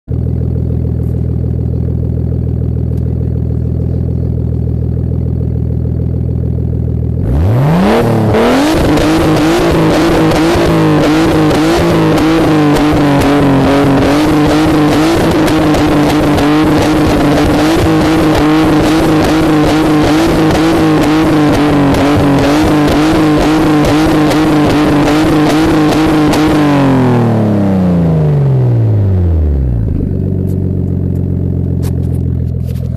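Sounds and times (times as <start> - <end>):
car engine idling and revving: 0.1 - 32.9.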